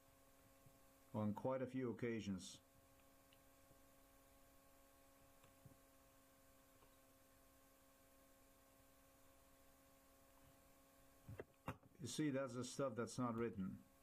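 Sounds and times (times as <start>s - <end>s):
faint electrical hum with hiss: 0.0s - 14.0s.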